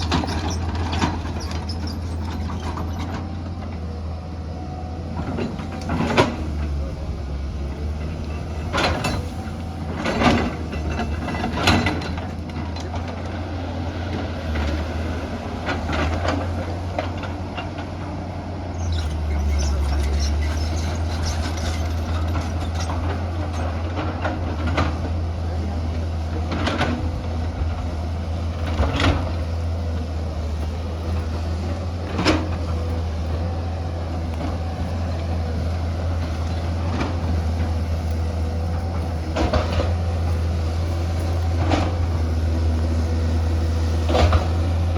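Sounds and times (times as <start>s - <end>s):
excavator diesel engine: 0.0s - 44.9s.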